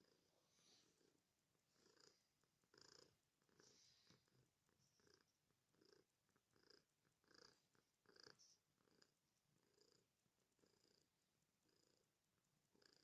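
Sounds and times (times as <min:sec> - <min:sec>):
cat purring faintly: 0:00.0 - 0:13.0.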